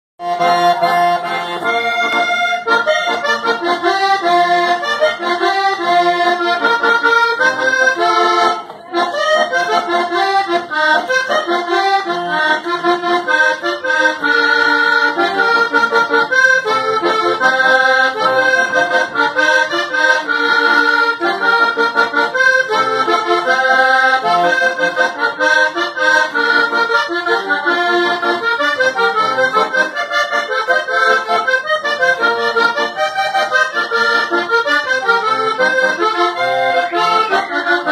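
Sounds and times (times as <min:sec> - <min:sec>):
button accordion playing: 0:00.2 - 0:37.9.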